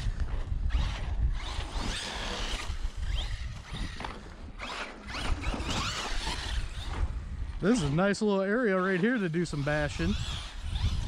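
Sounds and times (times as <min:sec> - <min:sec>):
wind buffeting microphone: 0:00.0 - 0:08.2, 0:09.4 - 0:11.0
rc truck wheels crunching snow: 0:00.0 - 0:11.0.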